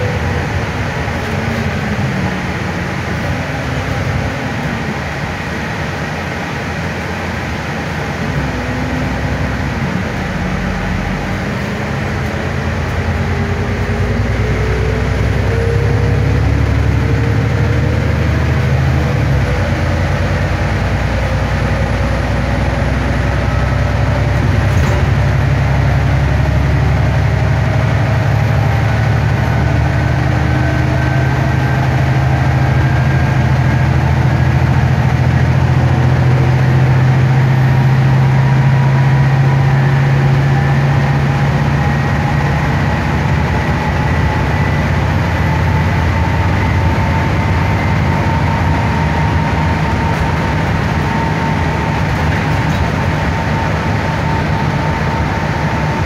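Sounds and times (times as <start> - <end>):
bus engine drone: 0.0 - 56.0
road and tyre noise: 0.0 - 56.0.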